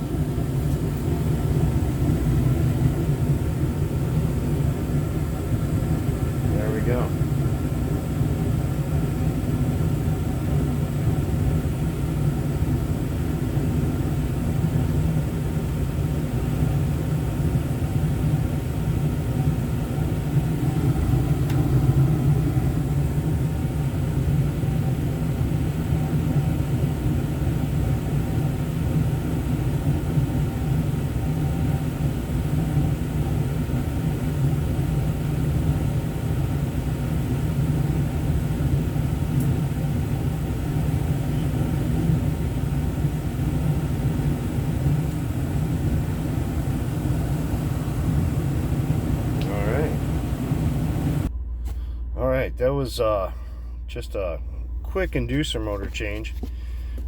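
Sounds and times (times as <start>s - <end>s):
faint hum: 0.0s - 57.0s
gas furnace running: 0.0s - 57.0s.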